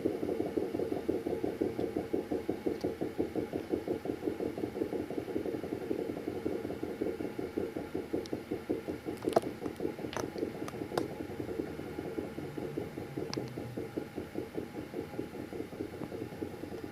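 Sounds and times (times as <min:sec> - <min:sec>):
rhythmic mechanical knocking: 0:00.0 - 0:16.9.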